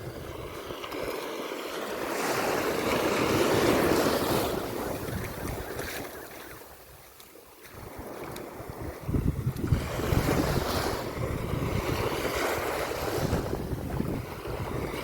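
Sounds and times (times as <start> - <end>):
wind buffeting microphone: 0.0 - 1.3, 2.0 - 15.0
sea waves breaking on beach: 0.0 - 15.0.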